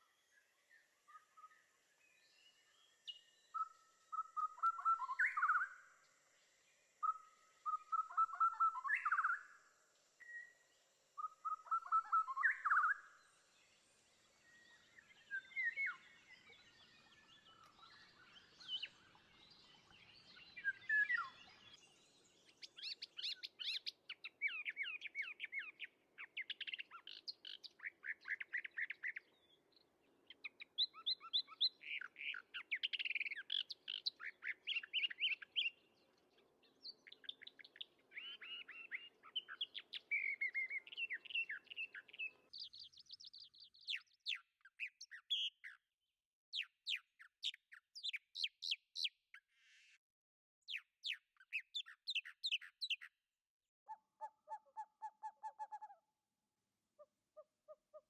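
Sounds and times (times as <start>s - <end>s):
birds singing: 0.0s - 6.4s, 7.0s - 9.5s, 11.2s - 13.4s, 14.1s - 45.8s, 46.5s - 49.5s, 50.7s - 53.2s.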